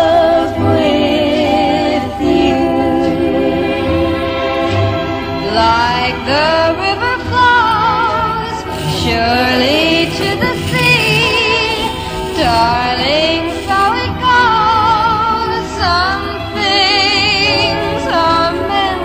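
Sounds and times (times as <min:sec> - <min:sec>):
person singing with vibrato: 0:00.0 - 0:19.0
steady musical accompaniment: 0:00.0 - 0:19.0.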